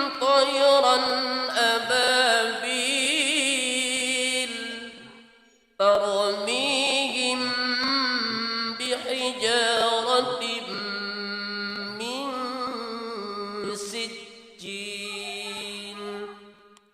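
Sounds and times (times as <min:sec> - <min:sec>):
melodic quran recitation: 0:00.0 - 0:16.9.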